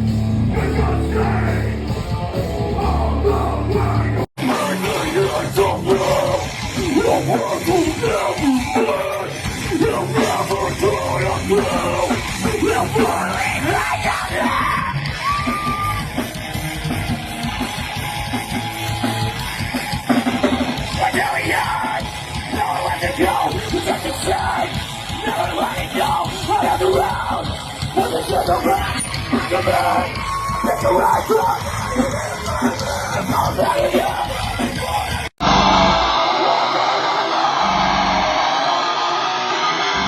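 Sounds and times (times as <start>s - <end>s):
heavy rock music: 0.0s - 40.0s
yelled vocals: 0.0s - 40.0s.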